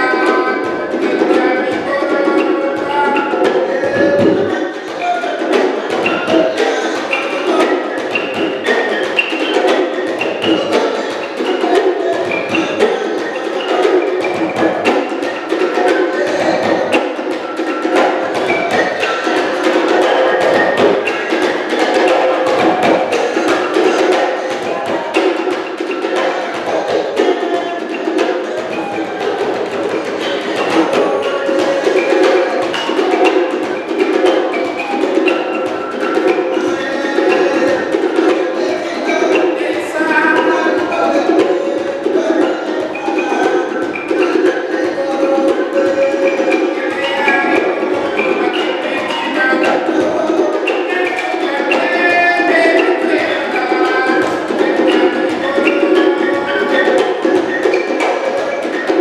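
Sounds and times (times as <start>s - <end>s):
hand drum thumps: 0.0s - 59.0s
wooden xylophone melody: 0.0s - 59.0s.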